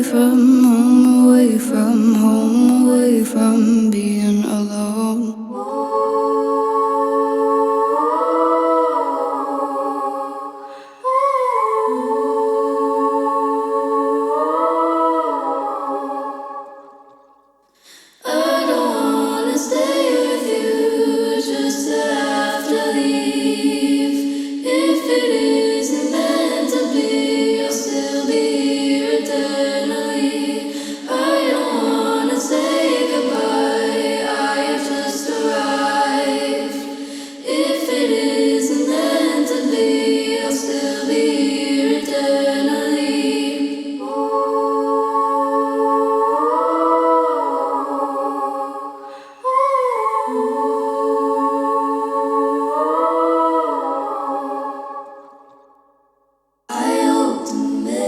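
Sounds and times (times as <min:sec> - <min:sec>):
a cappella voices singing chords: 0:00.0 - 0:58.0.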